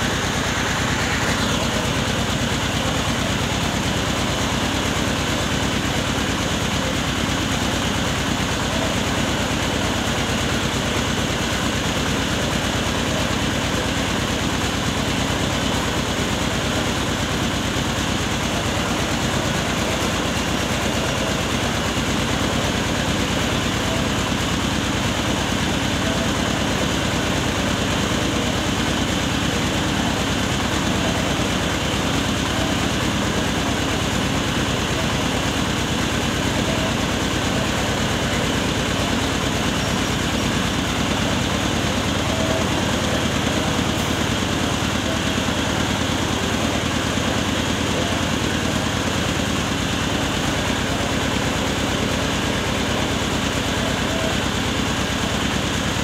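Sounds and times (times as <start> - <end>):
rice mill machinery running: 0.0 - 56.0.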